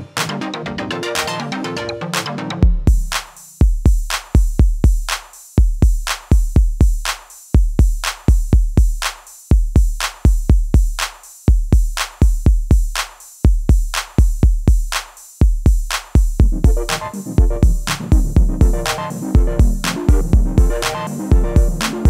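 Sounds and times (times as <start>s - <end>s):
electronic drum-machine beat: 0.0s - 22.0s.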